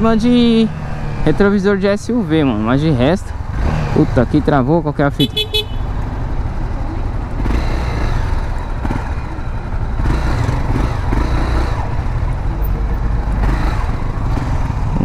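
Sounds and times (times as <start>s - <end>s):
car traffic: 0.0s - 15.0s
motorcycle engine low rumble: 0.0s - 15.0s.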